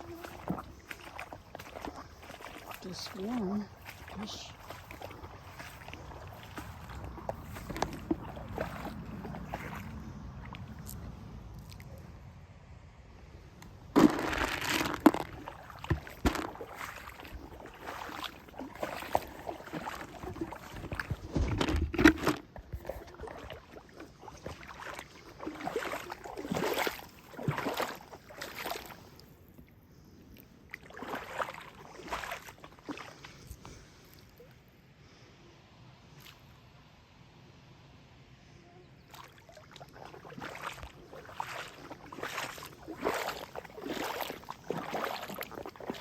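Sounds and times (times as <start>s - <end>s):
feet splashing through water: 0.0s - 12.0s, 13.6s - 29.4s, 30.3s - 34.5s, 39.0s - 46.0s.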